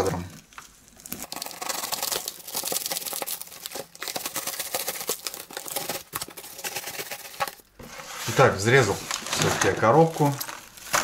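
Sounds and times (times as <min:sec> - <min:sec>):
plastic wrap crinkling and tearing: 0:00.0 - 0:11.0.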